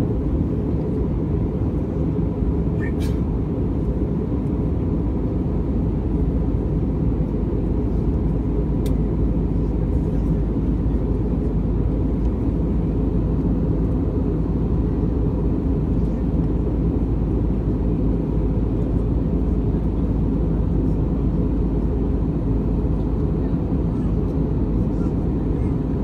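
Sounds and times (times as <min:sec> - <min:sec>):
airflow over fuselage: 0:00.0 - 0:26.0
airplane cabin engine rumble: 0:00.0 - 0:26.0.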